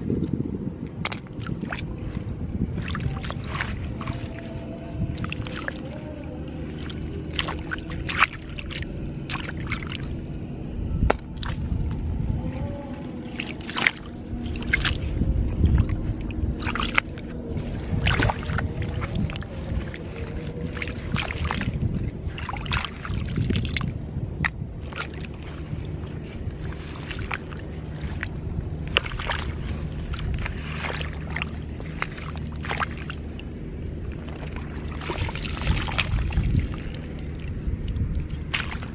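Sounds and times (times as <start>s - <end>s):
muddy water sloshing and splashing: 0.0s - 38.9s.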